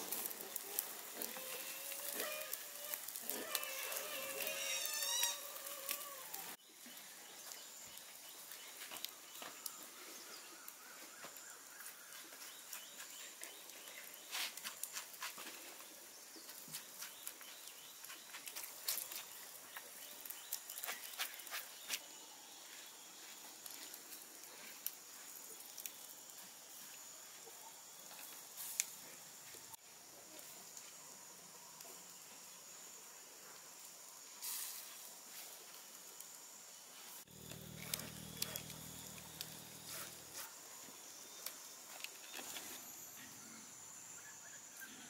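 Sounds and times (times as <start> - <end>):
fish sizzling on charcoal grill: 0.0 - 33.0, 33.7 - 43.2
steady high hiss: 0.0 - 45.0.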